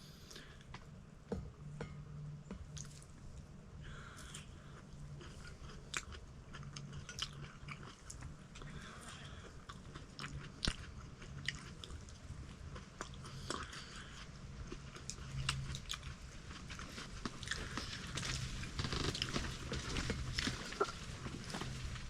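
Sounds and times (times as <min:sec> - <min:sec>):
person chewing and biting: 0:03.9 - 0:21.7.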